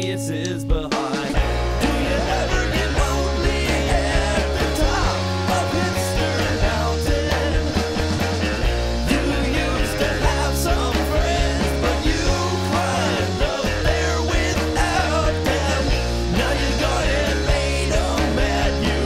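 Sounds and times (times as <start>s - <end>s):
rock music with steady beat: 0.0s - 19.0s.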